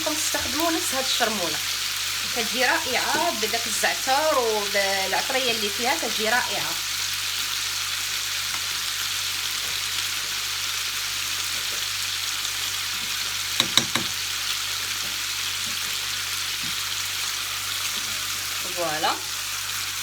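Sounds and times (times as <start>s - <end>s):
seafood sizzling in frying pan: 0.0s - 20.0s.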